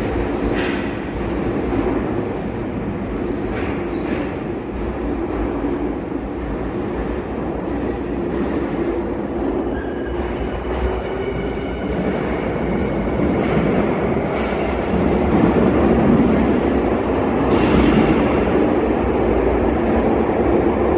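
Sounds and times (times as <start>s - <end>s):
electric train rumbling in tunnel: 0.0s - 20.9s.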